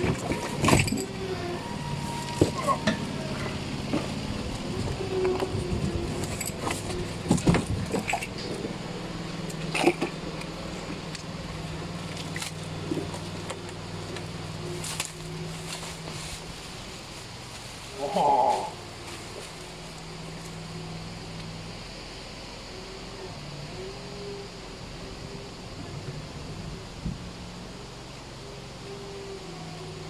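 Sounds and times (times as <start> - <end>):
steady engine hum: 0.0 - 30.0.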